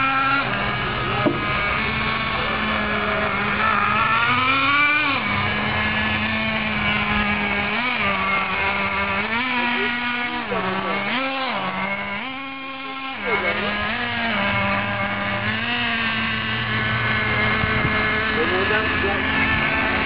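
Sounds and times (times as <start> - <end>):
rc buggy engine buzzing: 0.0 - 20.0.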